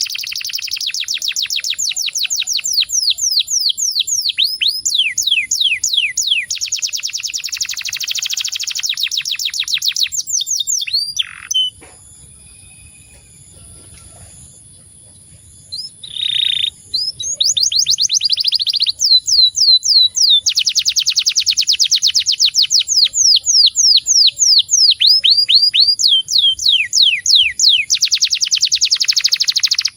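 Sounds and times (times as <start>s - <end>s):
canary singing trills: 0.0s - 29.9s.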